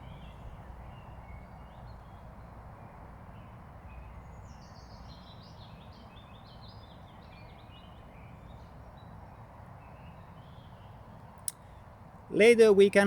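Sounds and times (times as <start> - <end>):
songbirds singing: 0.0 - 12.5
low background hiss: 0.0 - 13.0.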